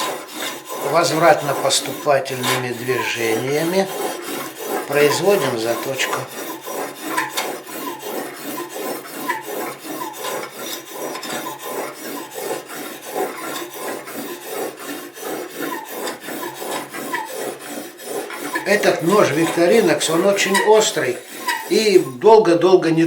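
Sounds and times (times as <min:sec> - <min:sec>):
abrasive paper rasping on blade: 0:00.0 - 0:22.6.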